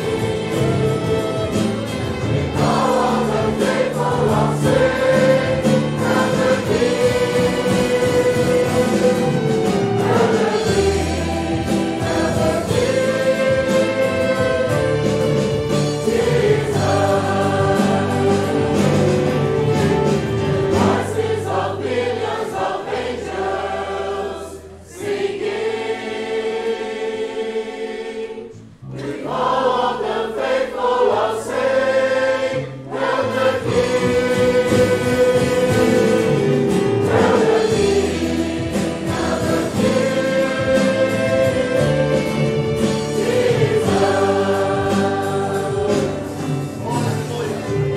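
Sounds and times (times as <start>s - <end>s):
congregation singing a hymn: 0.0s - 47.9s.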